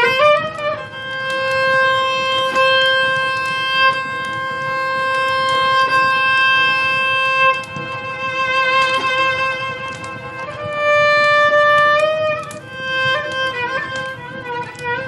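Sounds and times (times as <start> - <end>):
violin long held note: 0.0 - 15.0.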